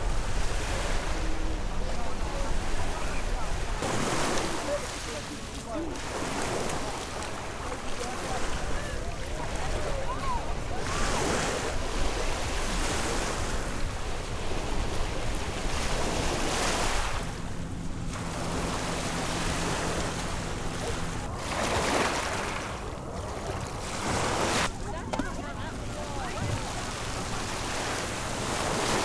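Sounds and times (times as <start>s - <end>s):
waves washing over pebbles: 0.0s - 17.6s, 18.2s - 24.7s, 25.3s - 29.0s.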